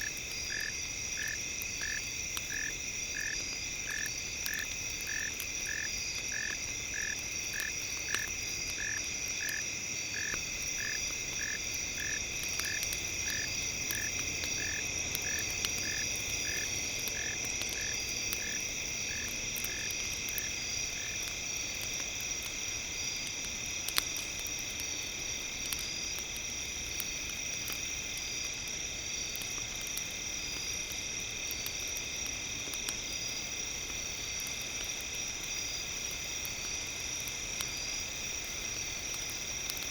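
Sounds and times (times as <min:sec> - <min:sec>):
crackling campfire with pops: 0:00.0 - 0:39.9.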